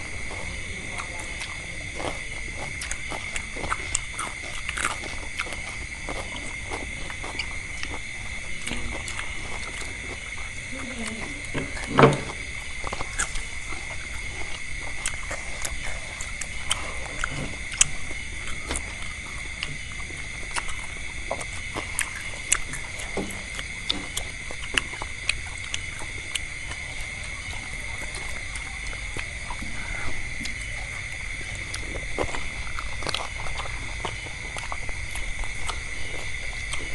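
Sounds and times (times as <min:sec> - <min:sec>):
chewing crunches: 0:00.0 - 0:36.9
high-pitched hum: 0:00.0 - 0:36.9.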